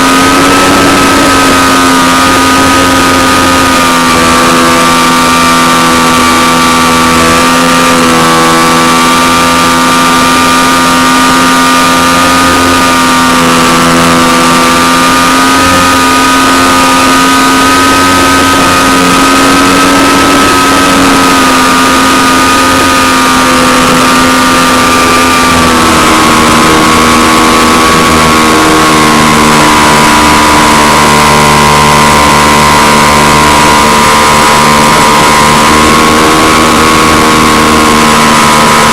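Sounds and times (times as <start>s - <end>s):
model aeroplane engine buzzing: 0.0s - 38.9s.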